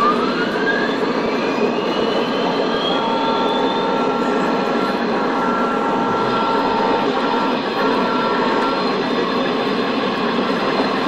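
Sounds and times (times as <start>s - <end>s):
model locomotive tones: 0.0s - 11.0s
model trains rushing: 0.0s - 11.0s.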